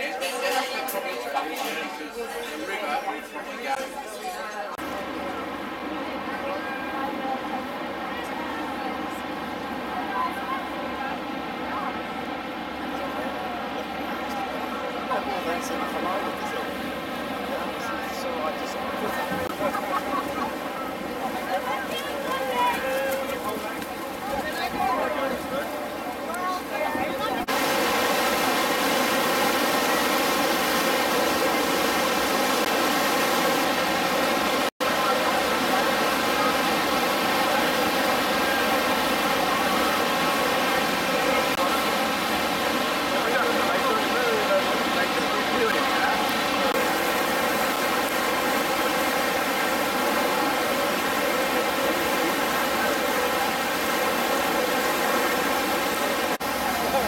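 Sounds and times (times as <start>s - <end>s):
boat engine droning: 4.8s - 57.0s
wind and water rushing: 4.8s - 57.0s.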